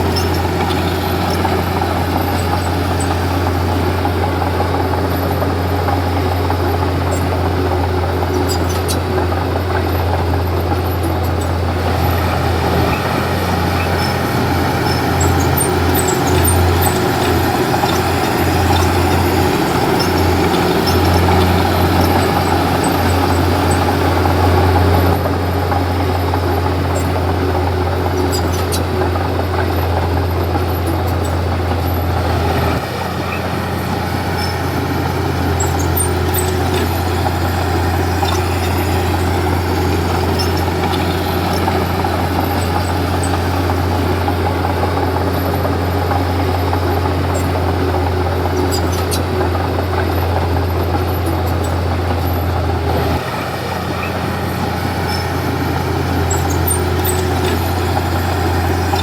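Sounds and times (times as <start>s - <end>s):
bulldozer diesel engine humming: 0.0s - 59.0s.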